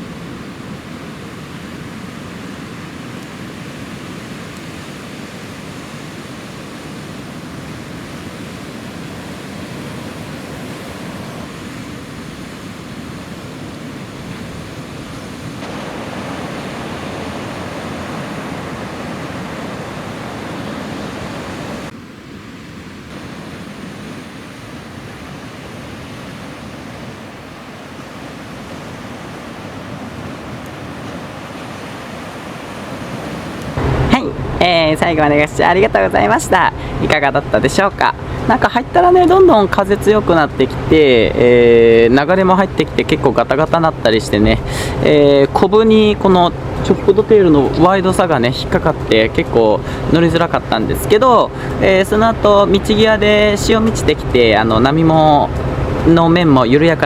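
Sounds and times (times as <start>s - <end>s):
wind on microphone: 0.0s - 42.2s, 42.9s - 57.0s
ocean surf: 0.0s - 57.0s.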